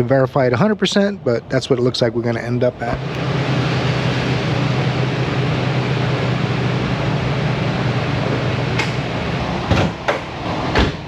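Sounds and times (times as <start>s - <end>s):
blower whooshing whir with hum: 0.0s - 11.0s.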